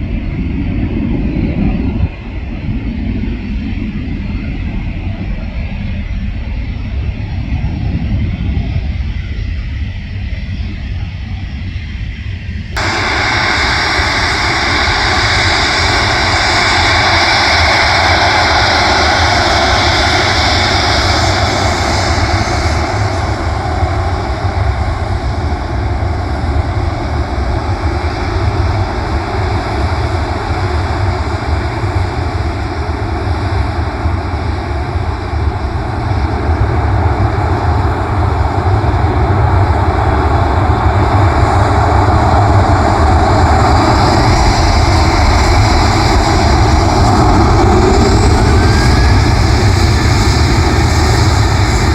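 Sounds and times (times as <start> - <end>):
jet engines roaring nearby: 0.0 - 51.9
low rumble: 0.0 - 51.9.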